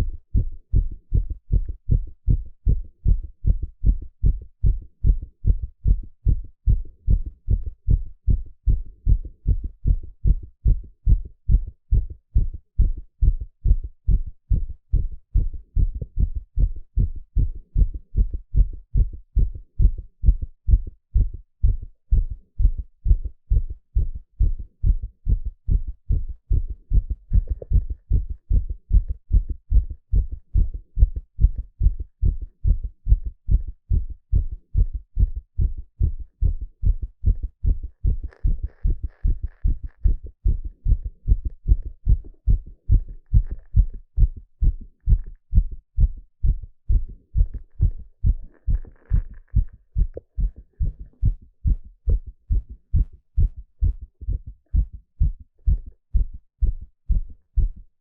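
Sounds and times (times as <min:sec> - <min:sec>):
heartbeat through stethoscope: 0:00.0 - 0:58.0.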